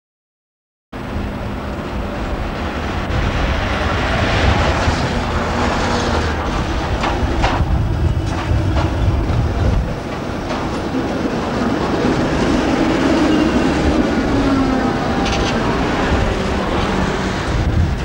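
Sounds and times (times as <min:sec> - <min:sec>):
tram wheels rumbling on rails: 0:01.0 - 0:18.0.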